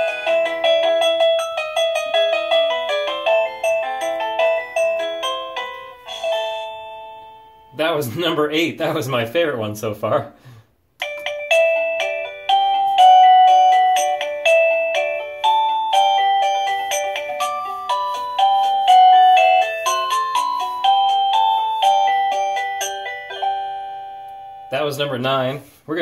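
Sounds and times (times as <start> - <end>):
electronic doorbell chime melody: 0.0 - 8.0, 11.0 - 25.5.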